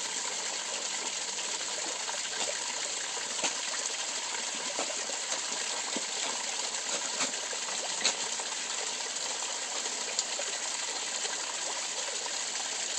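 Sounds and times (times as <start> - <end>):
water running into pond: 0.0 - 12.9.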